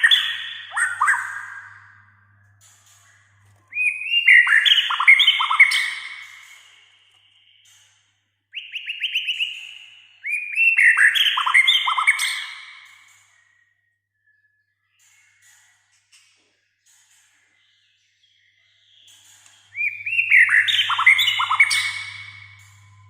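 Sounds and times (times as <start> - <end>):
bird singing whistled notes: 0.0 - 7.8, 8.5 - 15.5, 17.6 - 23.0.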